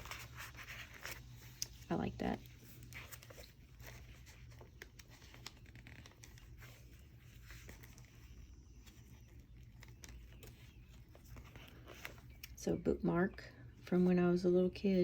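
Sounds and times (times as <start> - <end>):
paper rustling: 0.0 - 12.6
low steady hum: 0.0 - 15.0.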